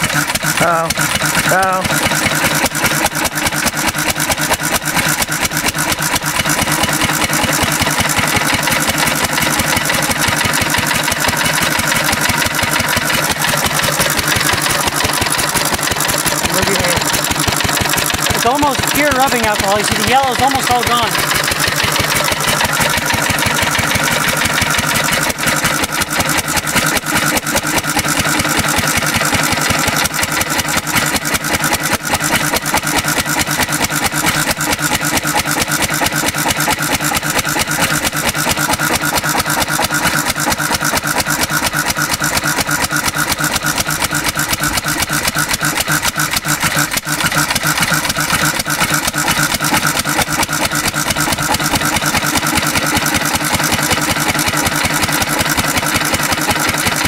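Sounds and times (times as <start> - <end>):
single-cylinder stationary engine running: 0.0 - 57.0.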